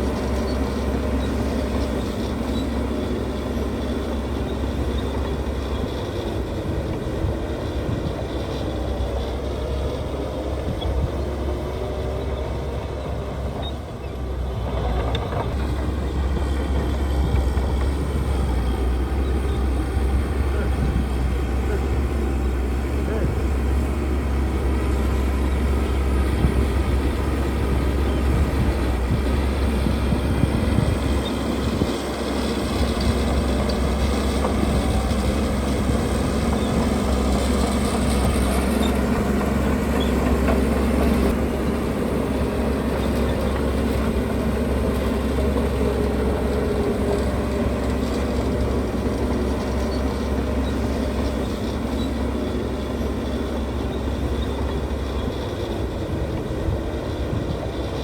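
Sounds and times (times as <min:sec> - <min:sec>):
diesel engines rumbling: 0:00.0 - 0:58.0.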